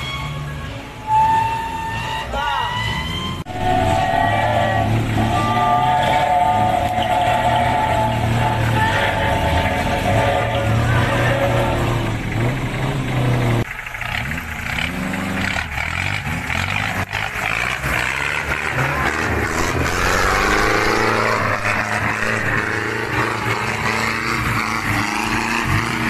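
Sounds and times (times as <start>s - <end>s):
engine labouring in mud: 0.0s - 26.0s.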